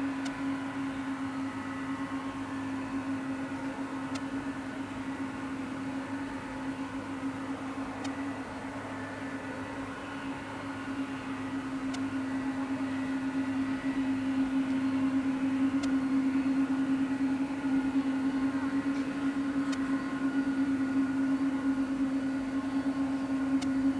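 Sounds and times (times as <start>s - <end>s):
jet engines whining at low thrust: 0.0s - 23.9s.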